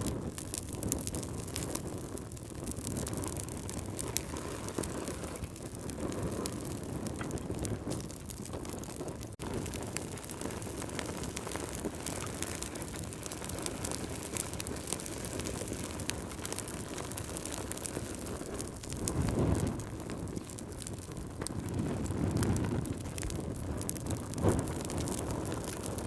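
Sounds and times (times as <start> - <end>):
log fire crackling: 0.0 - 26.0.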